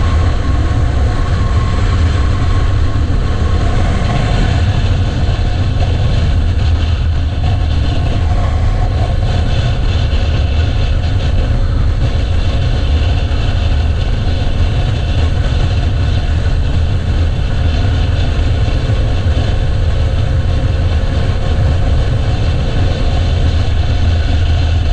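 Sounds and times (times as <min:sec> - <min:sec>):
motorcycle engine rumble: 0:00.0 - 0:24.9.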